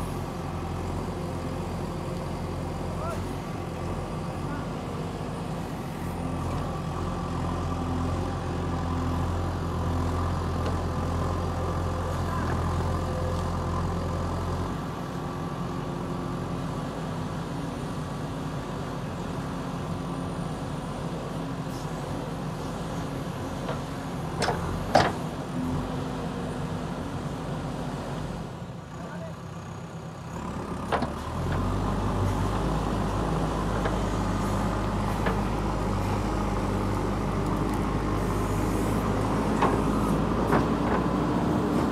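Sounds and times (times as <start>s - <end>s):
diesel engine droning: 0.0s - 41.9s.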